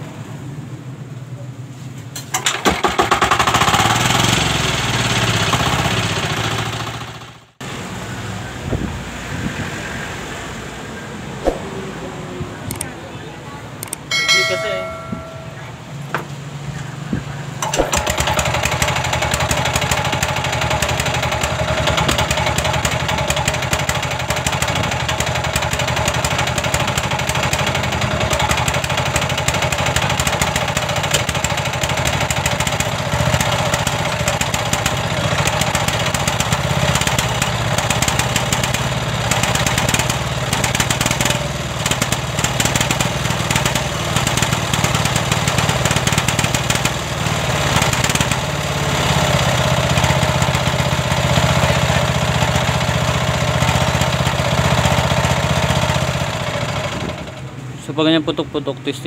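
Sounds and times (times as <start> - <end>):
diesel engine popping and misfiring: 2.2 - 7.5, 16.0 - 59.0.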